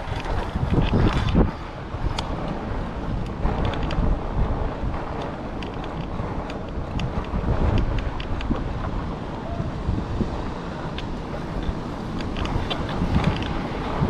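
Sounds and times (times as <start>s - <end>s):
light clicks and ticks: 0.0s - 4.1s, 5.0s - 9.4s, 10.8s - 14.0s
wind buffeting microphone: 0.0s - 14.0s.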